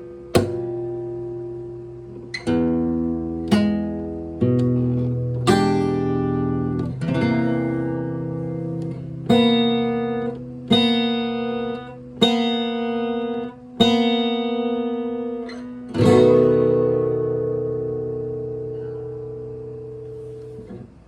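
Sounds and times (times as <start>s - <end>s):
guitar strumming slow chords: 0.0s - 21.0s.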